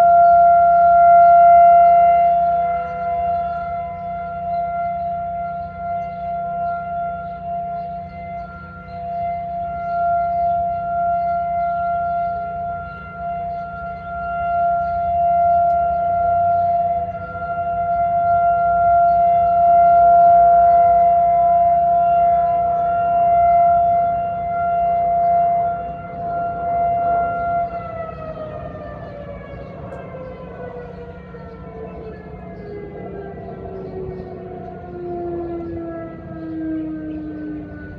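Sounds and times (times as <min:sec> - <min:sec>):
warning sirens steady tone: 0:00.0 - 0:37.9.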